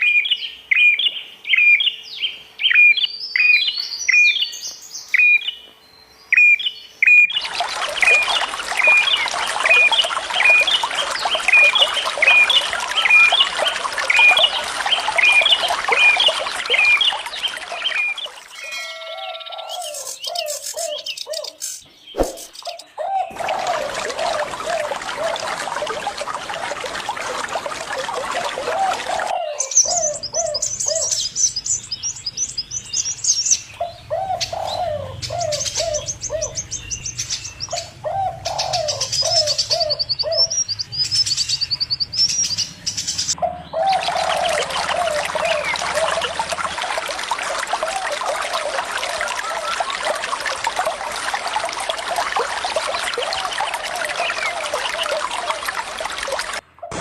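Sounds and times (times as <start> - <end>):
trickling water: 7.1 - 57.0.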